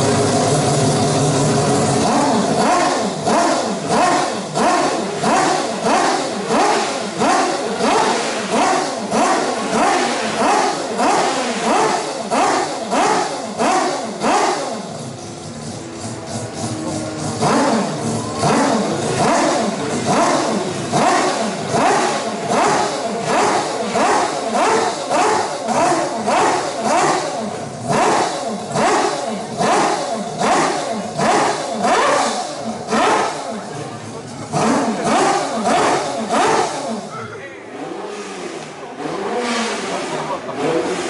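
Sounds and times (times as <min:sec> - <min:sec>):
rotary engine revving: 0:00.0 - 0:41.0.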